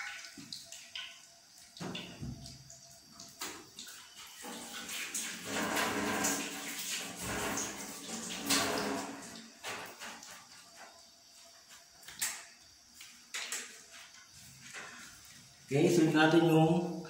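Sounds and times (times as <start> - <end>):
water running and splashing: 0.0 - 15.4.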